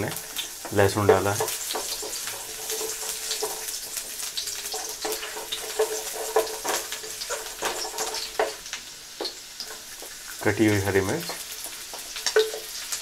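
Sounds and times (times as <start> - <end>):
garlic sizzling in hot oil: 0.0 - 13.0
wooden spatula scraping a pan: 0.1 - 13.0.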